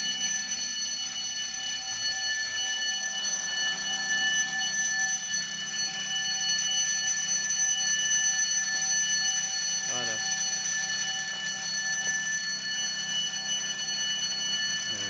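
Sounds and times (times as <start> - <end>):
alarm high-pitched electronic tone: 0.0 - 15.0.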